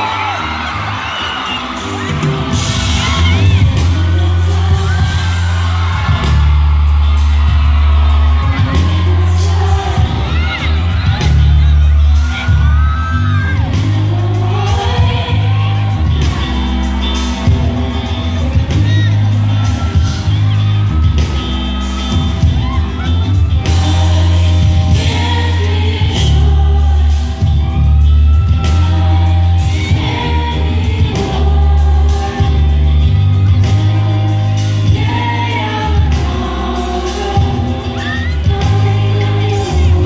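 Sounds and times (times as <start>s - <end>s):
drums: 0.0s - 40.0s
guitar: 0.0s - 40.0s
keyboards: 0.0s - 40.0s
lead vocal: 0.0s - 40.0s
loud bass line: 0.0s - 40.0s.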